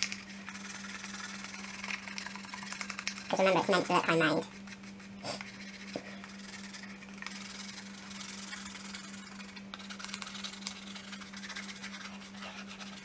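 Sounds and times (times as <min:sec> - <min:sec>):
chalk scratching on paper: 0:00.5 - 0:13.0.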